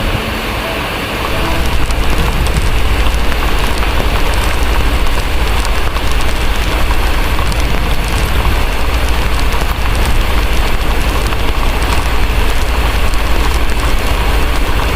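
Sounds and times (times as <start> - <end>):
deep low rumble: 0.0 - 14.9
heavy steady rain: 0.0 - 14.9
fireplace crackles and ticks: 1.2 - 14.9.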